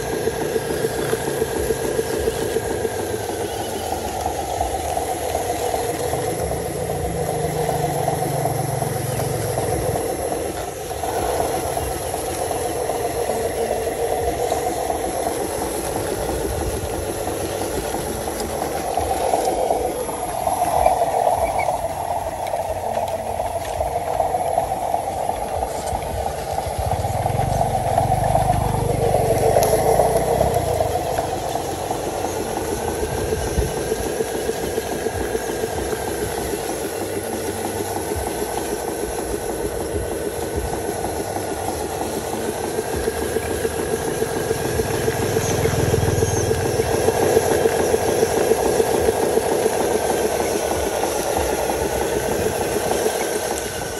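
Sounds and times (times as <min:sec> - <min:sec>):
model truck motor whining: 0:00.0 - 0:53.9
thin high whine: 0:00.0 - 0:53.9.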